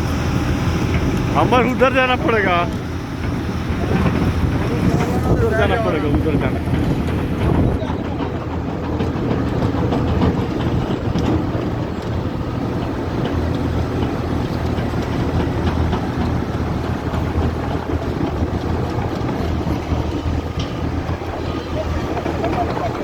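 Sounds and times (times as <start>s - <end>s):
crane engine rumbling: 0.0s - 23.0s.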